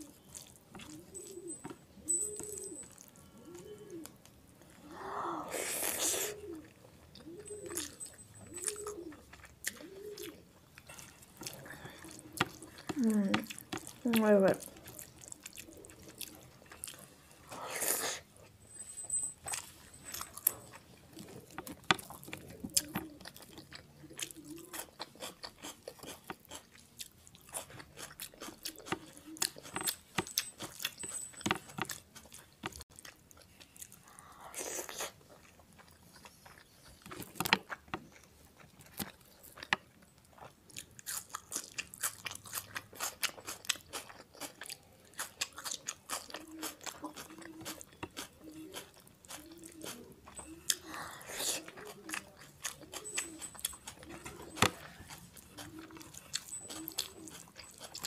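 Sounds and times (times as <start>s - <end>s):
chewing and crunching: 0.0s - 5.0s, 5.6s - 58.0s.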